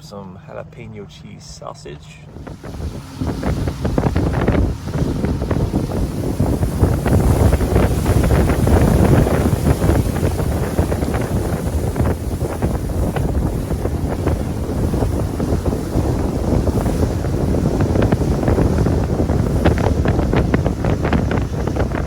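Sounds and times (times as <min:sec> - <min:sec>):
water slapping against hull: 0:02.3 - 0:22.0
wind buffeting microphone: 0:02.3 - 0:22.0.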